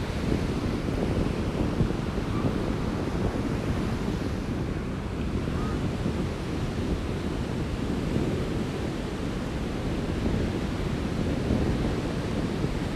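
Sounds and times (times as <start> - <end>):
surf washing onto beach: 0.0 - 12.9
wind on microphone: 0.0 - 12.9.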